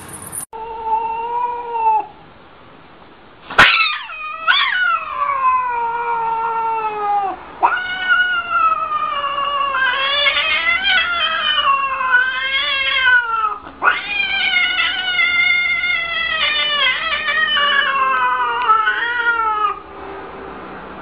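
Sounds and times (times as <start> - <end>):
cat yowling: 0.6 - 2.1, 3.6 - 19.9.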